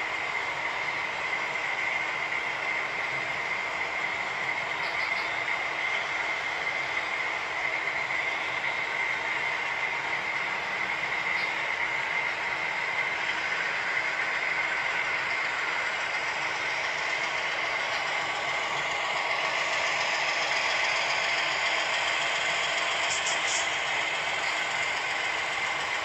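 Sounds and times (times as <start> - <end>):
model train wheels rattling: 1.4 - 26.0.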